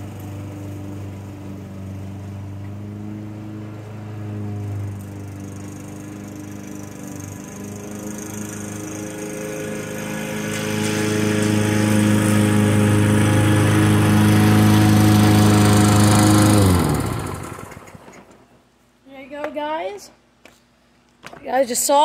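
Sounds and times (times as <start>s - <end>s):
lawn mower engine running: 0.0s - 18.5s.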